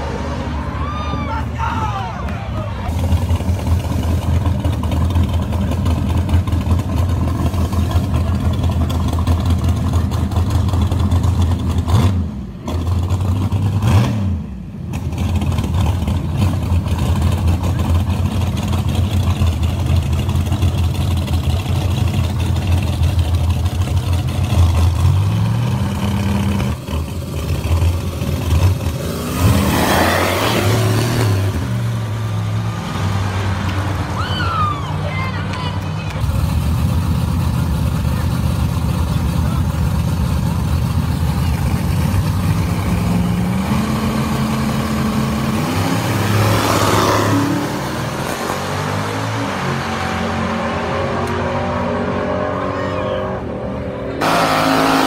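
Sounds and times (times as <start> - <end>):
drag car engines revving: 0.0 - 55.0.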